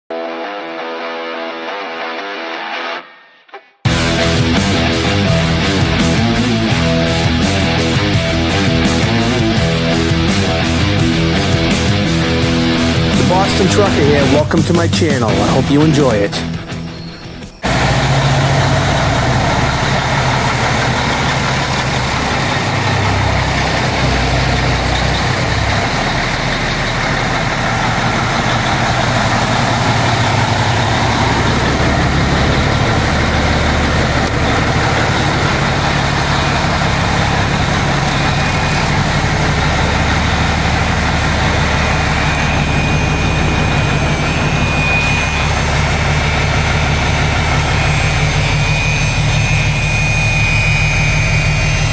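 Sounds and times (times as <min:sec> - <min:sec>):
diesel truck engine running: 0:03.9 - 0:51.9.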